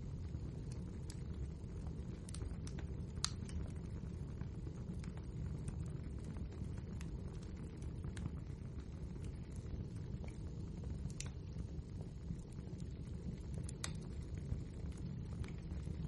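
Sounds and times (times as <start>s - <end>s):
burning logs crackling and popping: 0.0s - 16.0s
fire rumbling: 0.0s - 16.0s.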